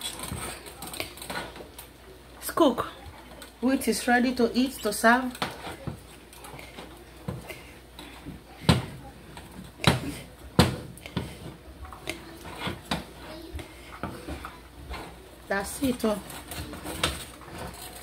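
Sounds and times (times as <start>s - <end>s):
spatula scraping: 2.9s - 18.0s.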